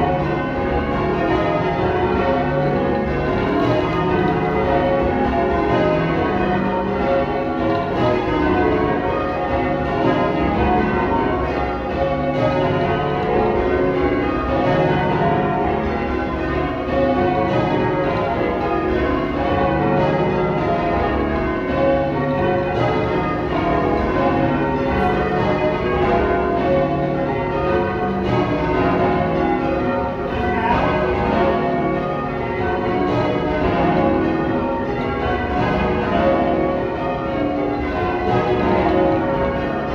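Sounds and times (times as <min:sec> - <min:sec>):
church bells change ringing: 0:00.0 - 0:39.9.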